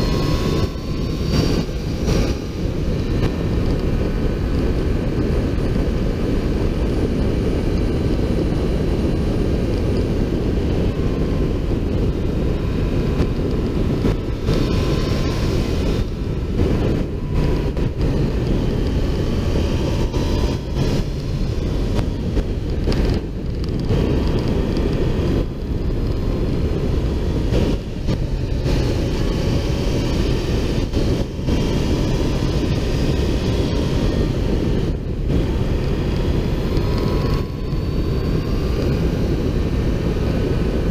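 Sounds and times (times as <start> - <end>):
motorcycle engine whine: 0.0 - 40.9
wind rush over microphone: 0.0 - 40.9.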